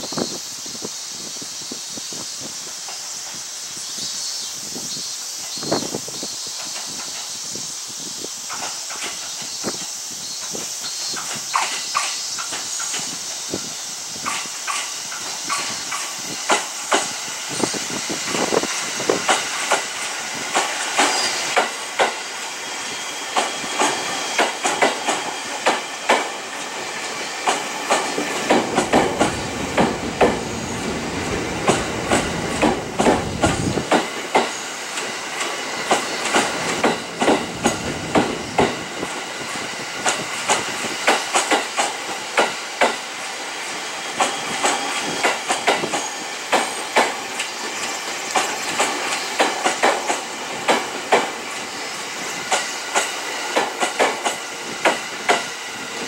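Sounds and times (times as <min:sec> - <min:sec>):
train wheels clicking over rails: 0:01.2 - 0:56.0
train low rumble: 0:06.3 - 0:56.0.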